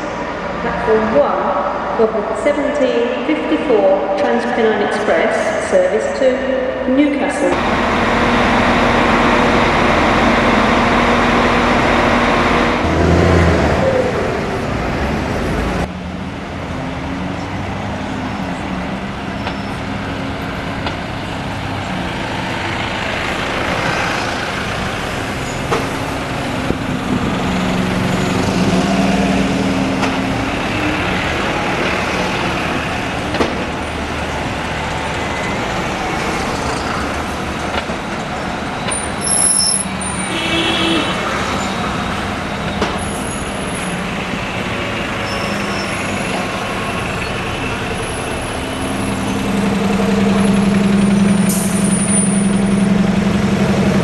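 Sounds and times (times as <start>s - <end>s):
bus engines droning: 0.0s - 54.0s.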